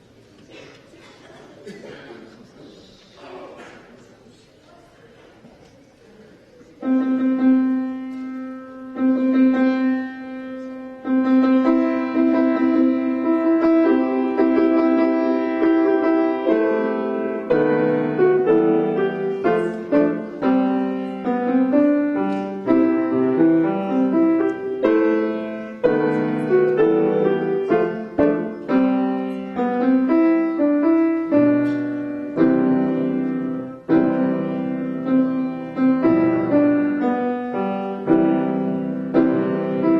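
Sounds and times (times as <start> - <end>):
solo piano playing: 6.8 - 39.9.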